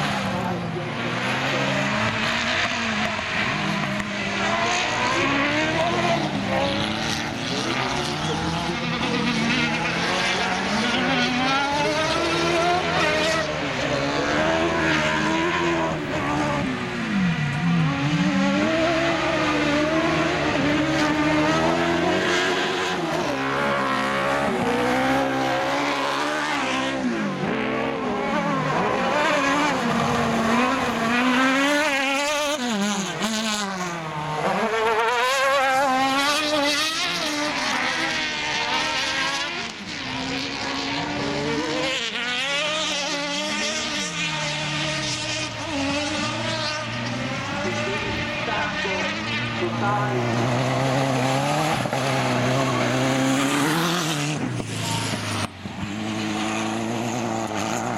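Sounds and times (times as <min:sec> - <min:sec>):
race car engines accelerating: 0:00.0 - 0:57.9.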